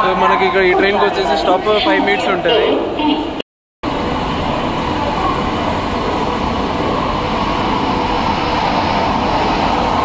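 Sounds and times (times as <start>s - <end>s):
steady train noise: 0.0s - 10.0s.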